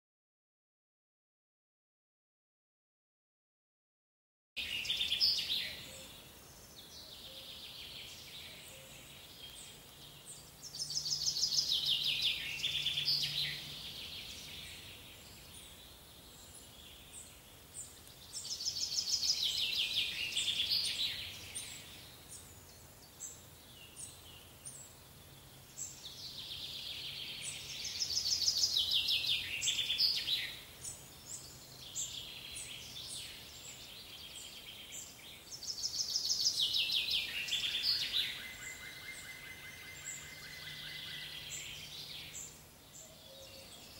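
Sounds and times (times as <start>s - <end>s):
faint steady background noise: 4.6s - 43.9s.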